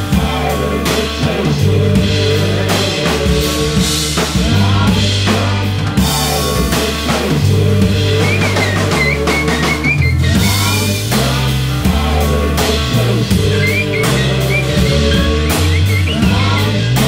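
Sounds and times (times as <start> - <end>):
drum kit: 0.0 - 17.0
electric bass low notes: 0.0 - 17.0
electric guitar: 0.0 - 17.0.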